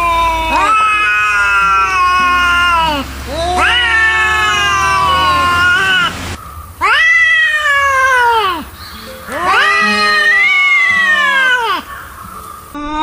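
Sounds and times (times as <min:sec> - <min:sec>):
angry cat yowling: 0:00.0 - 0:06.2, 0:06.8 - 0:08.7, 0:09.3 - 0:11.9.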